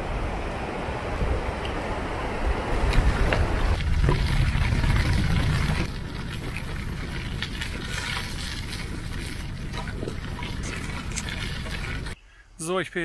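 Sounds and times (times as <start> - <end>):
wind rumbling on microphone: 0.0 - 12.2.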